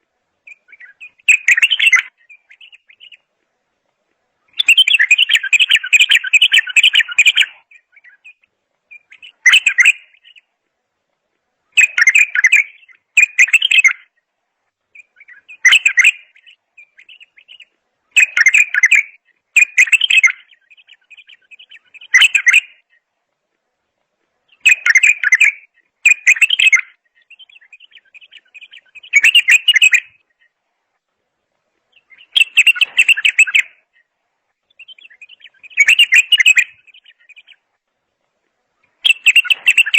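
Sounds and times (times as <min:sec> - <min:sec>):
soft bird twittering: 0:00.0 - 0:03.3, 0:04.4 - 0:10.5, 0:11.7 - 0:23.1, 0:24.3 - 0:31.0, 0:31.8 - 0:37.8, 0:38.8 - 0:39.9
songbird singing rich phrases: 0:00.0 - 0:39.9.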